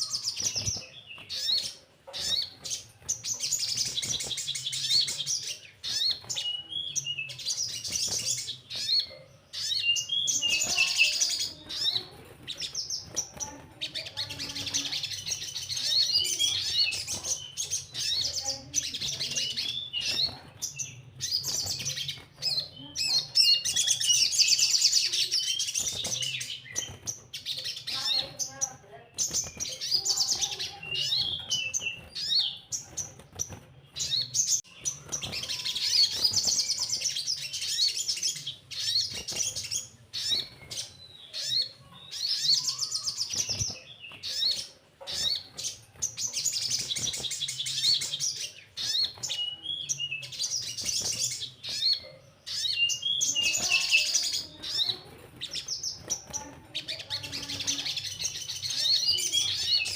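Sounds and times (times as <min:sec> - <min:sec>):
bird trilling chatter: 0:00.0 - 0:59.9.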